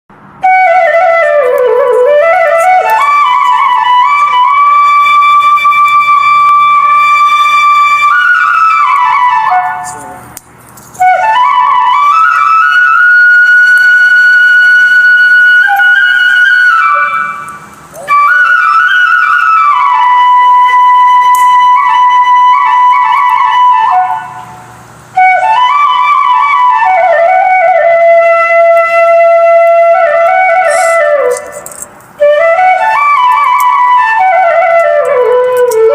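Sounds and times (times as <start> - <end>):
solo flute melody: 0.4 - 35.9.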